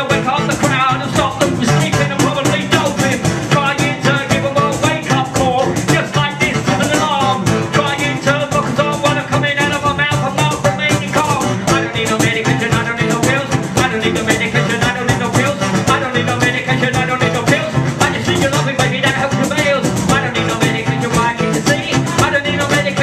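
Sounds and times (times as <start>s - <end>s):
rapping into a microphone: 0.0s - 23.0s
strummed guitar: 0.0s - 23.0s.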